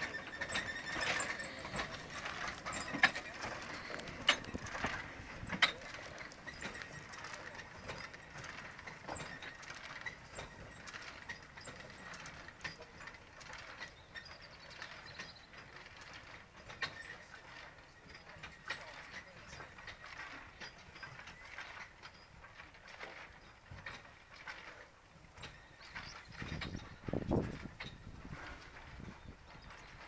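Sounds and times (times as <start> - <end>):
steam locomotive clanking and rattling: 0.0 - 30.0.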